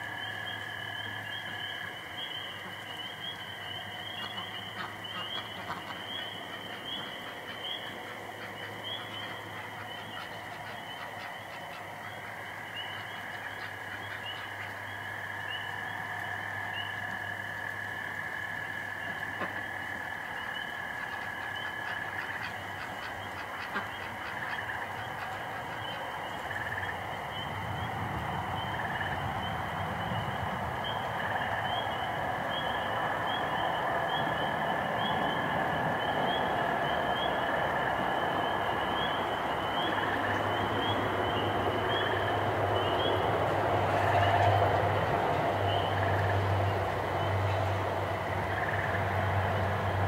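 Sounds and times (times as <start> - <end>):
frogs trilling: 0.0 - 50.0.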